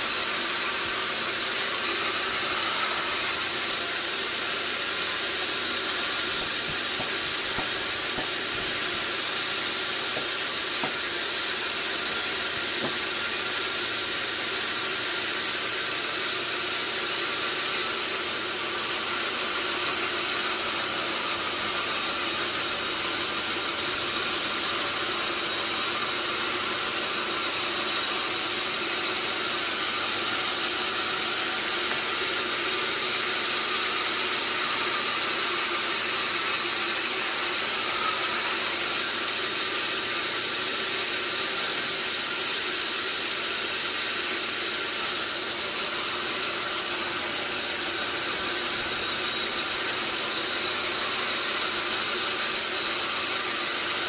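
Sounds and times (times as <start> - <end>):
sawmill machinery hissing: 0.0 - 54.0.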